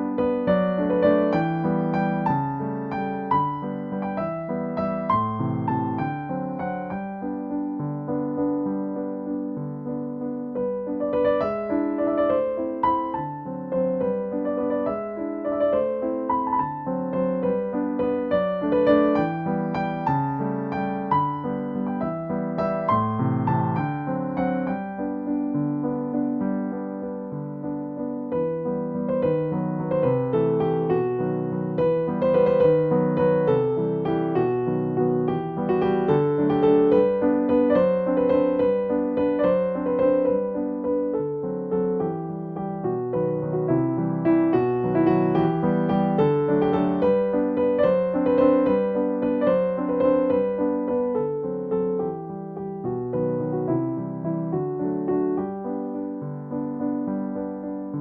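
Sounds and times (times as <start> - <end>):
gentle piano music: 0.0 - 58.0.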